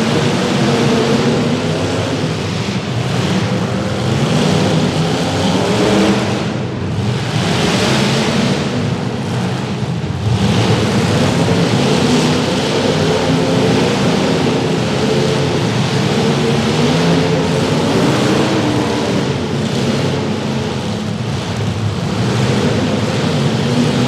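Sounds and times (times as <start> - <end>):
car engines running loudly: 0.0 - 24.0.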